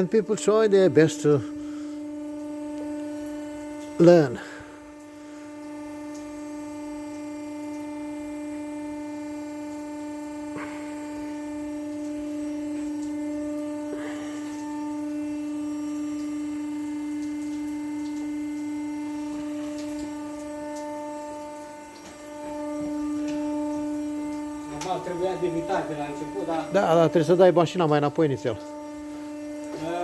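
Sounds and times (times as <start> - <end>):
sawmill drive humming: 0.0 - 30.0.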